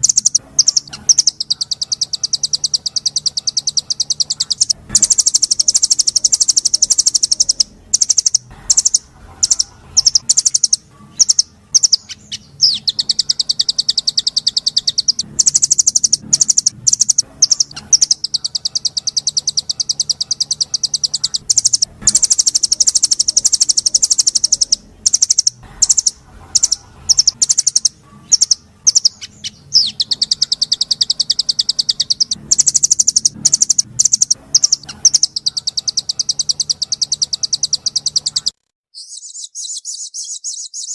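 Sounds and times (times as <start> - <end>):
bird chip notes: 0.0 - 40.9
songbird fast trills: 0.0 - 40.9.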